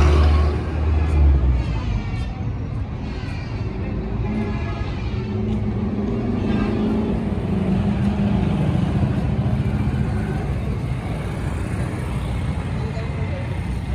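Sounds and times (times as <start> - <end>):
engine humming and rumbling: 0.0 - 13.9.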